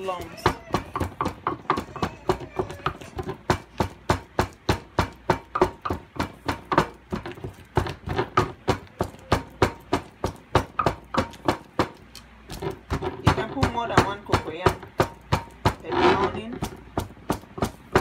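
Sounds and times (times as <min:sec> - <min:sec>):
wooden pestle pounding in mortar: 0:00.0 - 0:18.0.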